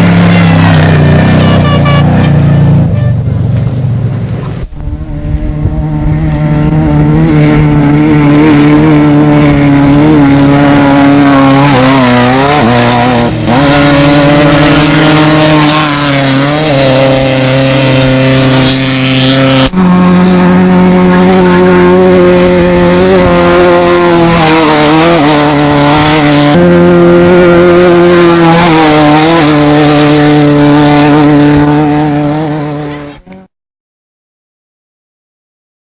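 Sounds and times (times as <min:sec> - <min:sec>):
race vehicle engines revving high: 0:00.0 - 0:33.5.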